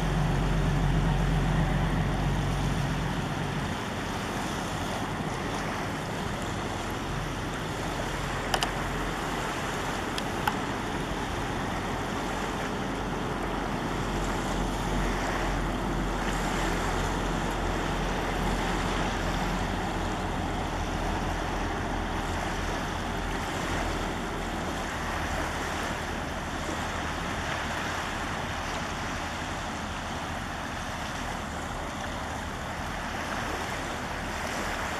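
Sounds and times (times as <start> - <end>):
boat diesel engines droning: 0.0 - 34.9
small waves lapping: 0.0 - 34.9.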